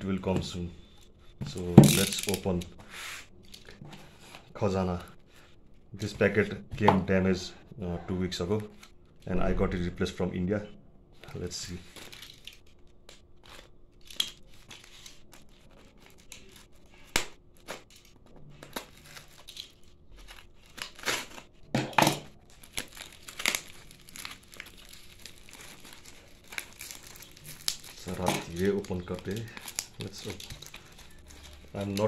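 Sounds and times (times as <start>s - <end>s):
parcel wrapping crinkling and tearing: 0.8s - 6.4s, 11.1s - 32.0s.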